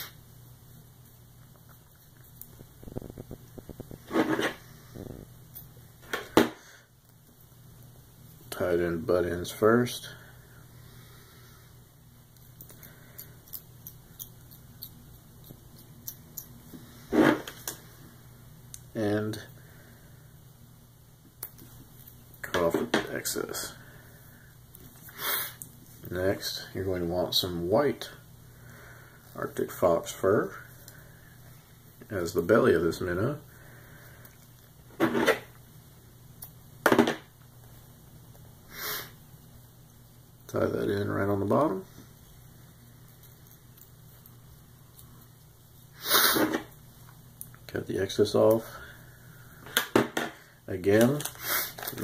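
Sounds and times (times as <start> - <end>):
soft hiss: 0.0 - 52.0.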